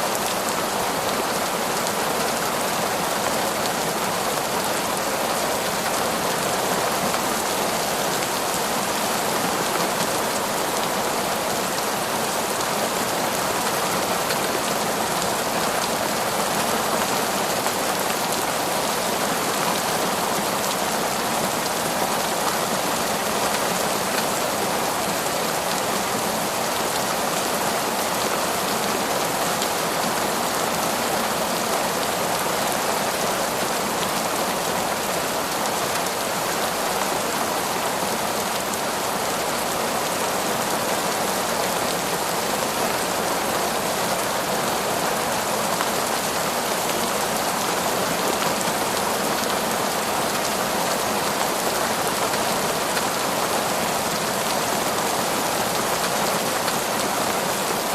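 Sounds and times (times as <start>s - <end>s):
heavy rain downpour: 0.0s - 57.9s.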